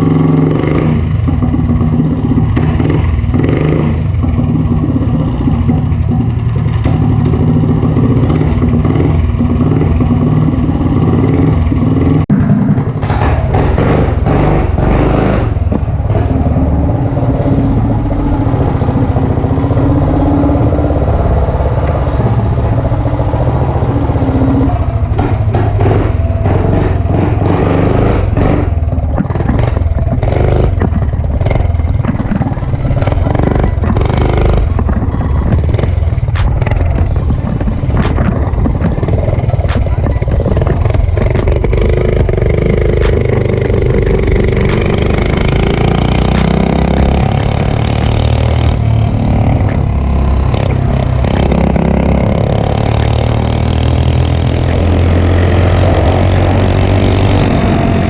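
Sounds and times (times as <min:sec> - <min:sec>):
mini bike engine running: 0:00.0 - 0:58.0.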